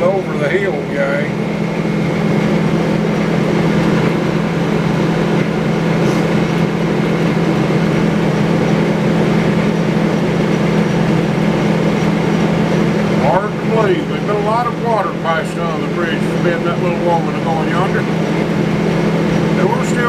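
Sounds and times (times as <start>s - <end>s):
sawmill machinery drone: 0.0s - 20.0s.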